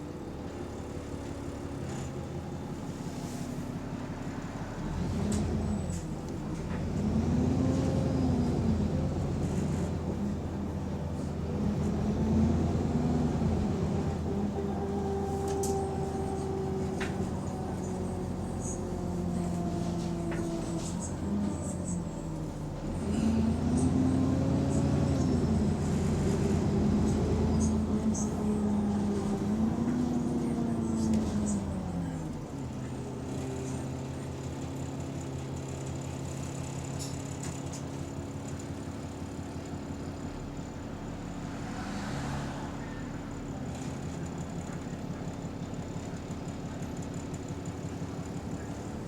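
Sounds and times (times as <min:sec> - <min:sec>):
bus diesel engine drone: 0:00.0 - 0:49.0.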